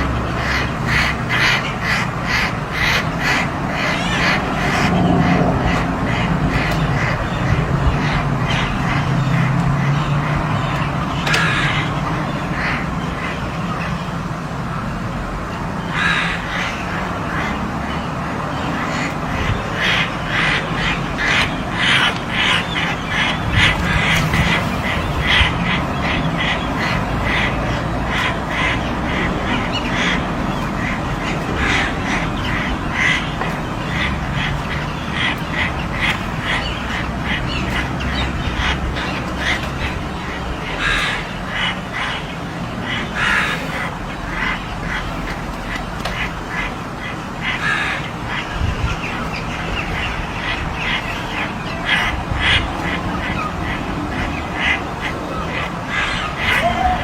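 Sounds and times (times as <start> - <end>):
crows cawing: 0.0 - 14.0, 15.8 - 57.0.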